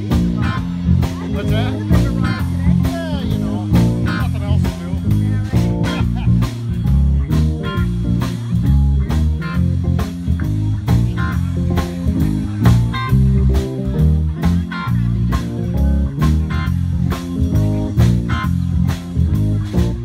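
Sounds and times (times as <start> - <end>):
bass guitar: 0.0 - 20.0
drums with steady beat: 0.0 - 20.0
electric guitar: 0.0 - 20.0.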